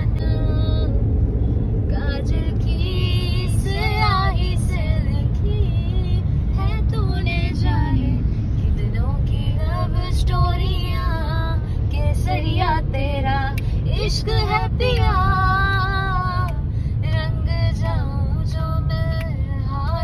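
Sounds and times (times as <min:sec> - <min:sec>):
car driving rumble: 0:00.0 - 0:20.0.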